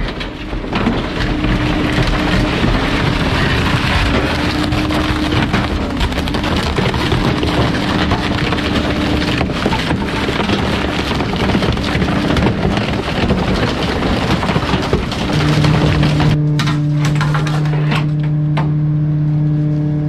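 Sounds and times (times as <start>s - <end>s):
truck rushing noise: 0.0s - 19.5s
faint engine hum: 0.3s - 20.0s.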